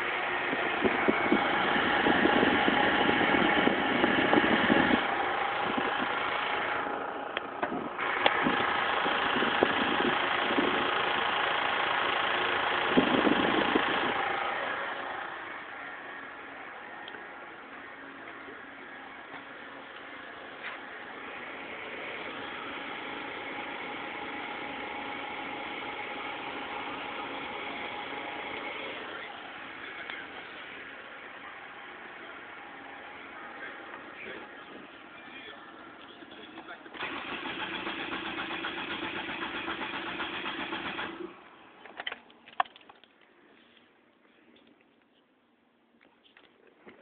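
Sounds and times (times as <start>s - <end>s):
car engine running: 0.0s - 42.1s.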